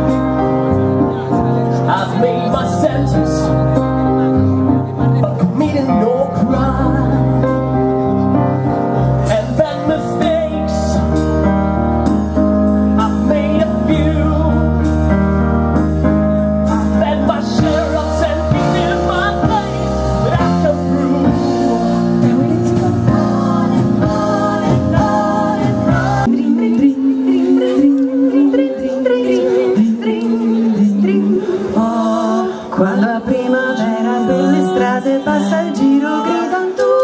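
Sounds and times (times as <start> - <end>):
live band with vocals: 0.0 - 37.0.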